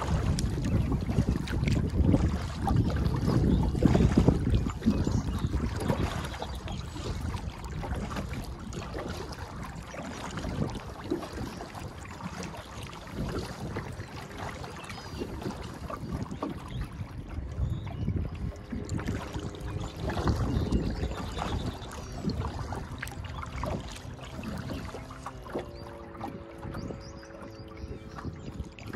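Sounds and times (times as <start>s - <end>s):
paddle blades splashing: 0.0s - 28.9s
water lapping against hull: 0.0s - 28.9s
wind rumbling on microphone: 0.0s - 28.9s.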